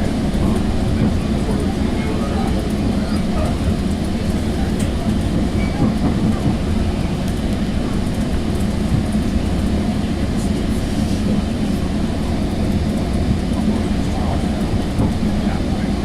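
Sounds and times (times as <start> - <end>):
train rumble inside coach: 0.0 - 16.0.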